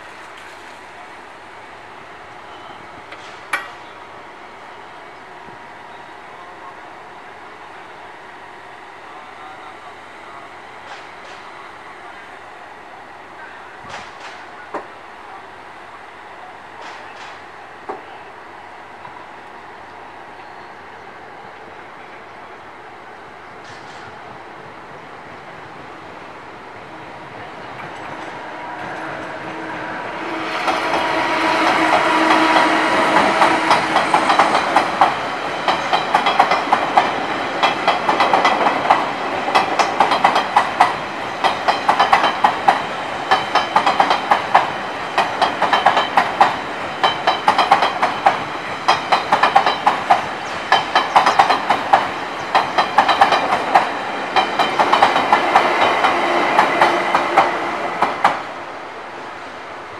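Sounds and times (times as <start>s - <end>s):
train rolling noise: 0.0s - 59.9s.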